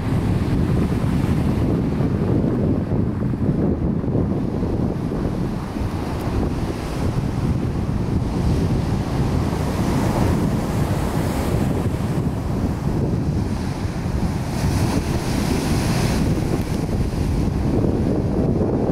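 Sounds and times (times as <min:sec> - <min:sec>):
surf washing up beach: 0:00.0 - 0:18.9
wind buffeting microphone: 0:00.0 - 0:18.9.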